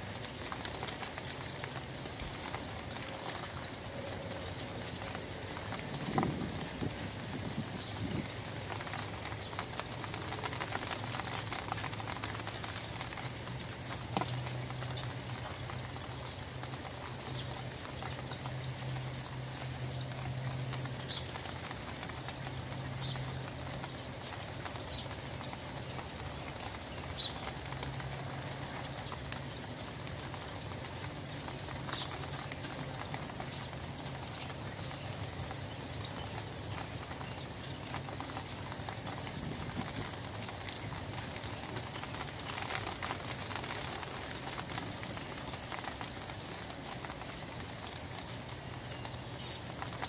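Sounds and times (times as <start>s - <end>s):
rain pattering on umbrella: 0.0s - 50.0s.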